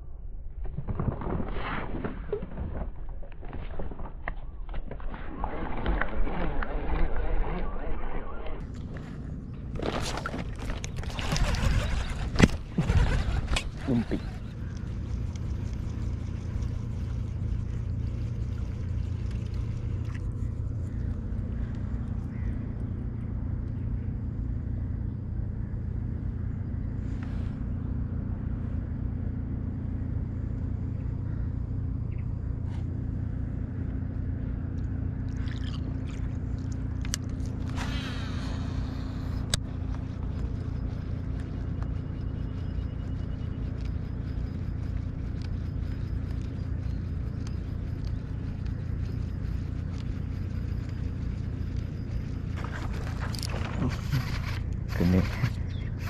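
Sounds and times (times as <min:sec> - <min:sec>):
engine droning: 0:02.7 - 0:56.0.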